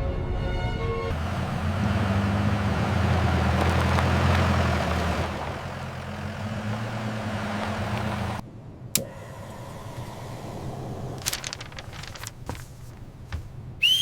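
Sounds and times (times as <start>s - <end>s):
motorhome engine hum: 1.1s - 14.0s
tire noise on pavement: 1.1s - 14.0s.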